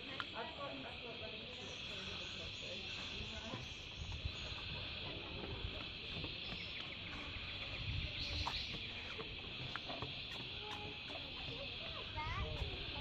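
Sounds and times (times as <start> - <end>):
insects buzzing: 0.0 - 13.0
low rumbling microphone noise: 0.0 - 13.0.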